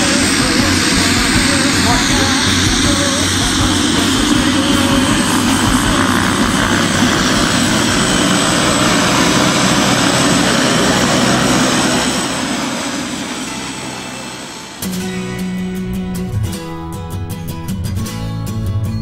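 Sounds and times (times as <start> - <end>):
propeller aircraft engines droning: 0.0 - 17.3.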